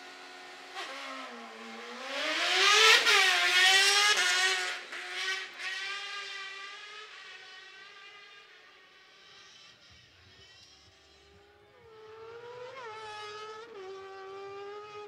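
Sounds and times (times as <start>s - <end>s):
buggy engine idling and revving: 0.0s - 7.7s, 9.2s - 15.0s.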